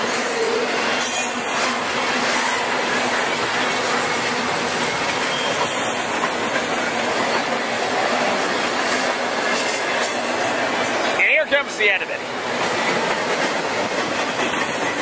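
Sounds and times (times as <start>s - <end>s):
freight train wheels on rails: 0.0s - 15.0s
wind from passing train: 0.0s - 15.0s.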